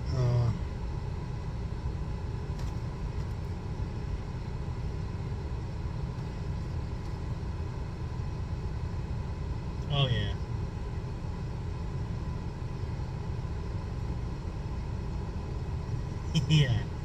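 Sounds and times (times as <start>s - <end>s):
air conditioning hum: 0.0s - 17.0s
car engine idling: 0.0s - 17.0s.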